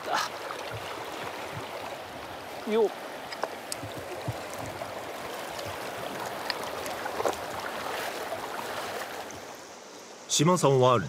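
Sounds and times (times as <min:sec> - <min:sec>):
river water flowing over stones: 0:00.0 - 0:11.0.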